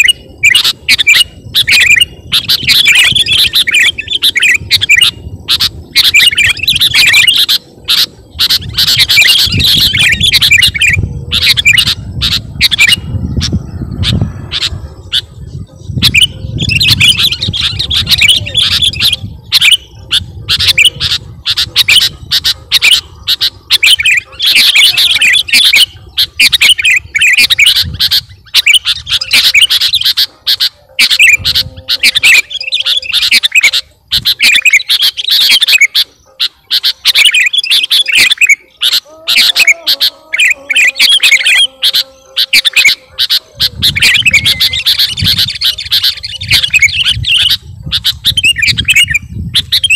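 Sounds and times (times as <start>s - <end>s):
bulbul singing: 0.0s - 49.9s.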